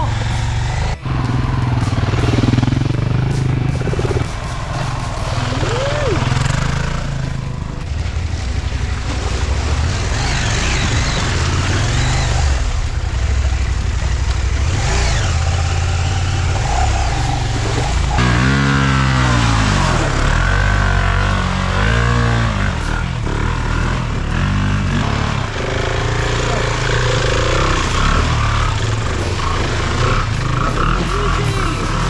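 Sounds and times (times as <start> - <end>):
background music: 0.0 - 32.0
motorcycle engines revving: 0.0 - 32.0.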